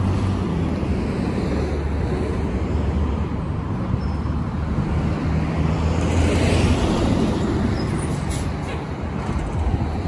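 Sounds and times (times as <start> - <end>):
road noise: 0.0 - 10.0
vehicle engines rumbling: 0.0 - 10.0.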